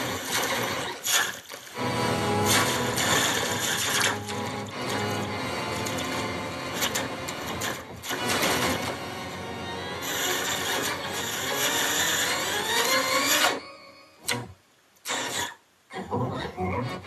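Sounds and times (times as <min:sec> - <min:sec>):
distorted cartoon soundtrack: 0:00.0 - 0:17.0.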